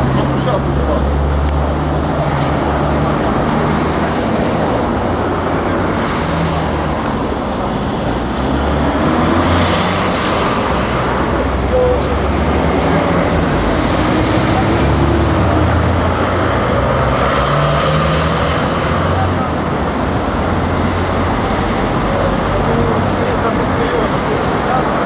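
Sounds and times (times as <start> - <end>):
vehicles driving past: 0.0 - 25.0.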